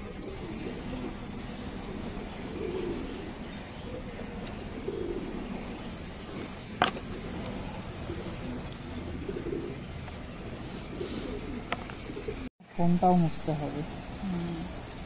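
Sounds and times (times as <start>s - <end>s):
pigeons cooing: 0.0s - 12.5s, 13.1s - 15.0s.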